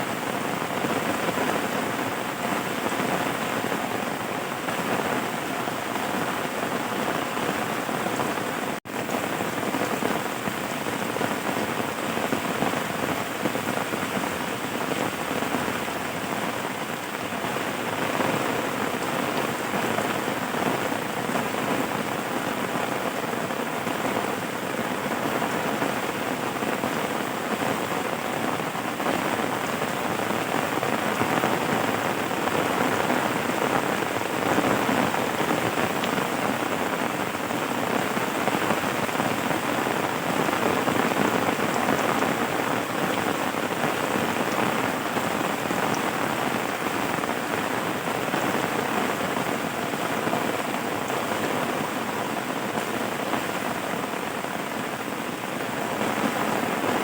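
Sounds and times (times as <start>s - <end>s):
rainfall: 0.0s - 57.0s.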